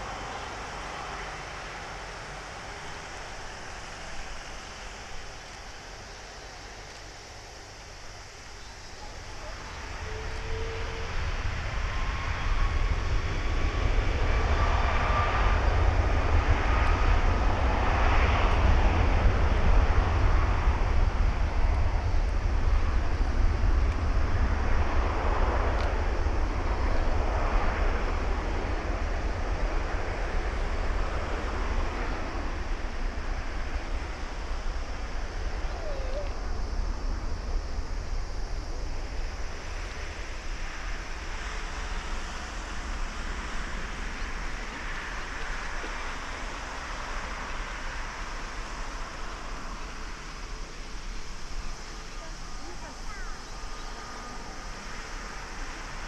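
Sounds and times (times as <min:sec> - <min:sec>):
jet engine whine: 0:00.0 - 0:56.0
jet engines roaring: 0:00.0 - 0:56.0.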